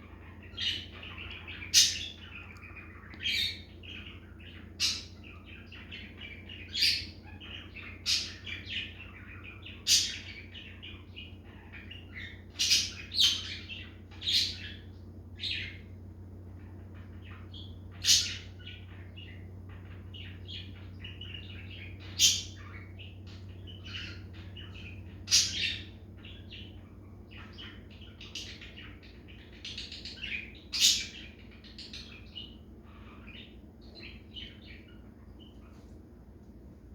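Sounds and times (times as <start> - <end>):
budgerigar chirping: 0.0 - 14.8, 16.6 - 35.5
steady low hum: 0.0 - 36.9.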